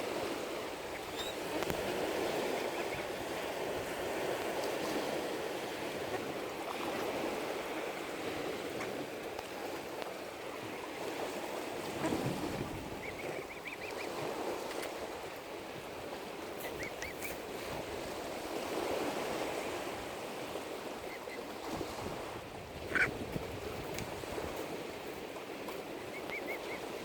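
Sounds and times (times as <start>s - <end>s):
small waves lapping at shore: 0.0s - 27.0s.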